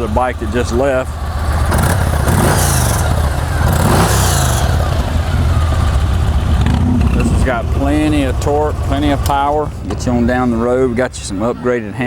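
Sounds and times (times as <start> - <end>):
engine revving: 0.0 - 11.6
motorcycle engine idling: 0.0 - 12.0.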